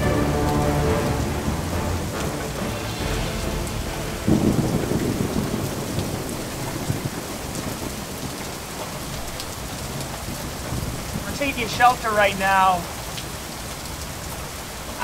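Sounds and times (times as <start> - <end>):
thunderclap rumbling: 0.0 - 12.0
heavy rain: 0.0 - 15.0.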